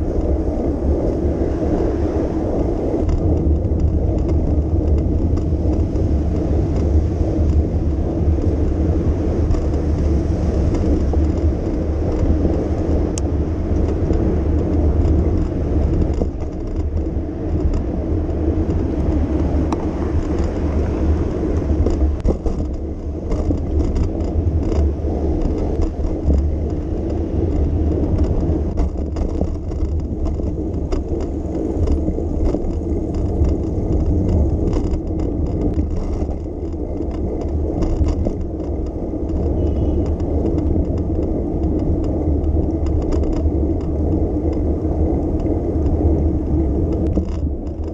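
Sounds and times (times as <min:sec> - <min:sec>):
bicycle tyres rolling: 0:00.0 - 0:47.9
continuous low rumble: 0:00.0 - 0:47.9
traffic: 0:00.0 - 0:47.9.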